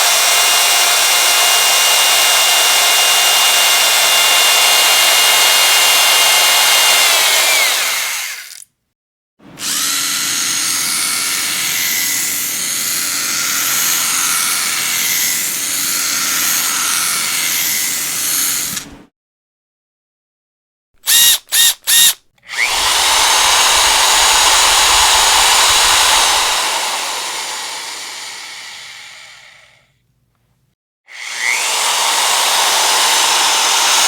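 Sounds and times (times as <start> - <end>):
electric drill whining: 0.0 - 8.6, 9.6 - 18.8, 21.0 - 29.8, 31.1 - 34.0.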